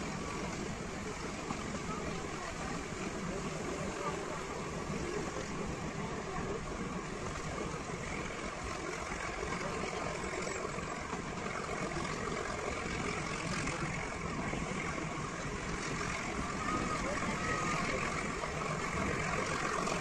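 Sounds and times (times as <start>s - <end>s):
toy train running: 0.0s - 20.0s.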